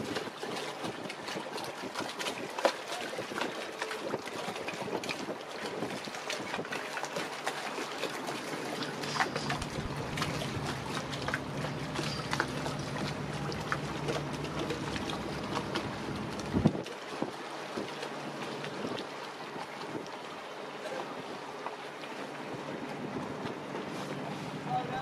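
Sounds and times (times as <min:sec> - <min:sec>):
boat engine humming: 0:00.0 - 0:25.0
water lapping against a hull: 0:00.0 - 0:25.0.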